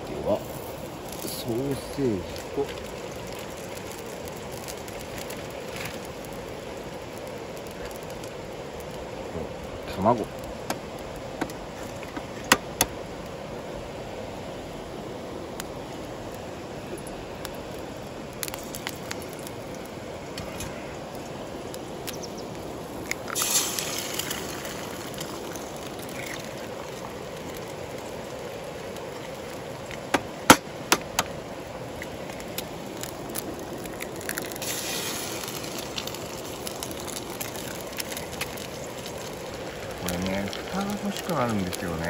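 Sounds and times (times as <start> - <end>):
eggs sizzling in a frying pan: 0.0 - 42.0.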